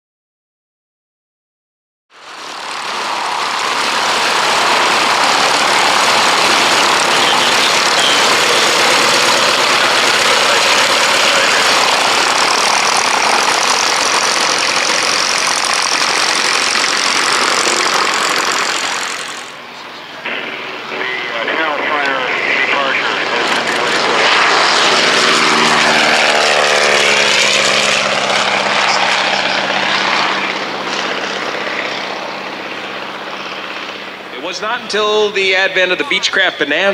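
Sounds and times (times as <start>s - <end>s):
propeller plane engine running: 2.1s - 36.9s.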